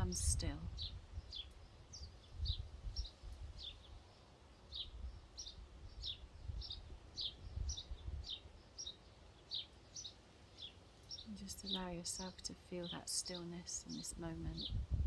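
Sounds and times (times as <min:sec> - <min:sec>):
low wind rumble: 0:00.0 - 0:08.7, 0:11.2 - 0:15.0
bird chirping: 0:00.0 - 0:14.8.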